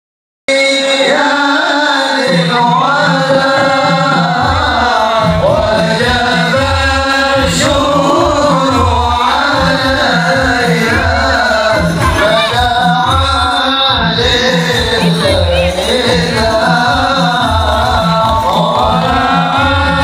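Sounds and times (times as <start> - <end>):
voices singing in chorus: 0.5 - 20.0
steady drum beat: 2.1 - 20.0.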